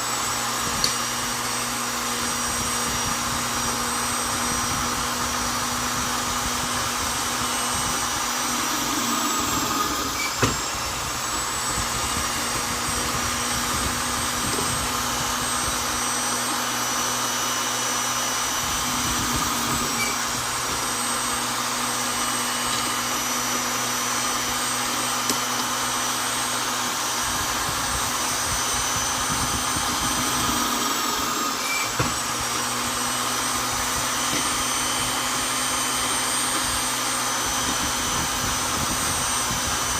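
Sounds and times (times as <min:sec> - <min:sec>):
electric drill boring into wood: 0:00.0 - 0:39.9.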